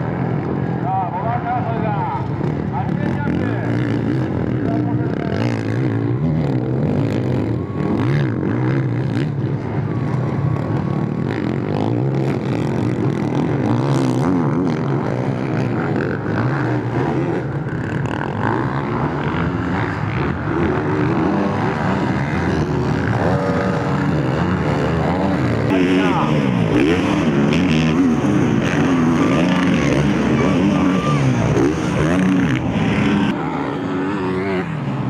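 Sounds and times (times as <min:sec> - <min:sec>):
motocross bike engines revving: 0:00.0 - 0:35.0.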